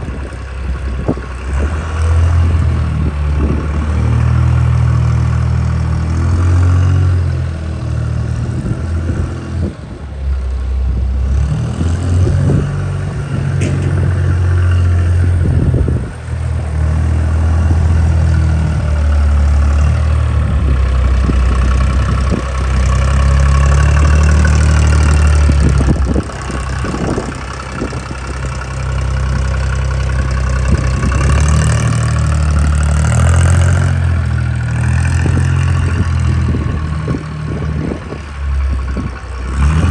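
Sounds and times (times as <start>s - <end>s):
wheel loader engine revving: 0.0s - 39.9s.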